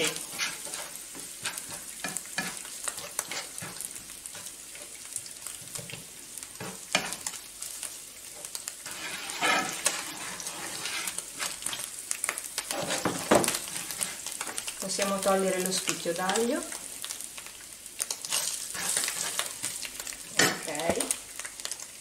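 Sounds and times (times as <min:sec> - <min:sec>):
tongs clicking and scraping a pan: 0:00.0 - 0:21.8
breadcrumbs sizzling in a frying pan: 0:00.0 - 0:22.0.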